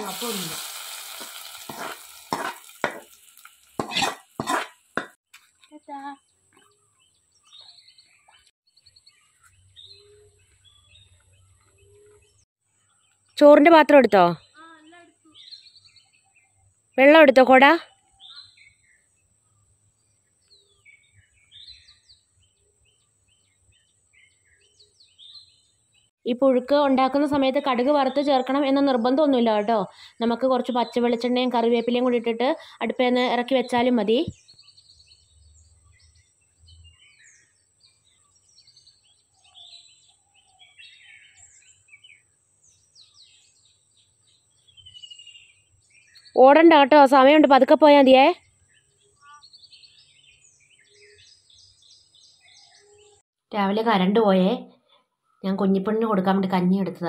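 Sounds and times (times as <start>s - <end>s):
faint songbird chirping: 5.6s - 57.0s.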